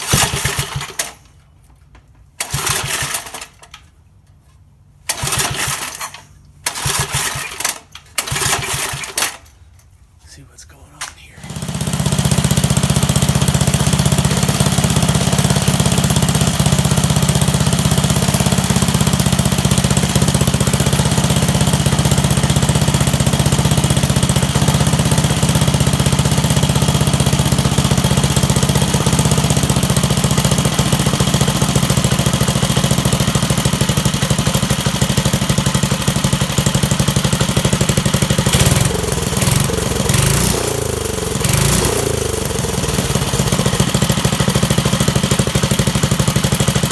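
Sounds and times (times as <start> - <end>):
small engine idling: 0.0 - 1.5, 2.4 - 3.6, 5.1 - 9.4, 11.4 - 46.9.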